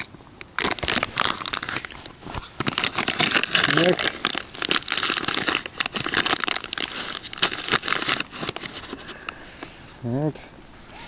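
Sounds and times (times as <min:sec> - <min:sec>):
foil bag crinkling: 0:00.0 - 0:09.4.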